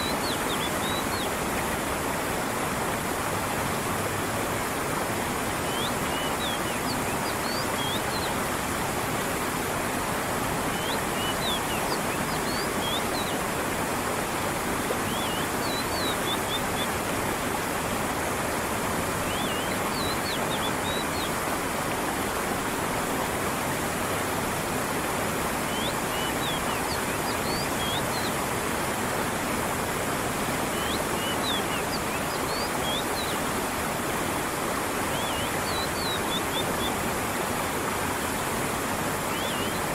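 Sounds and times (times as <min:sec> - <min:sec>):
creek water running and splashing: 0:00.0 - 0:39.9.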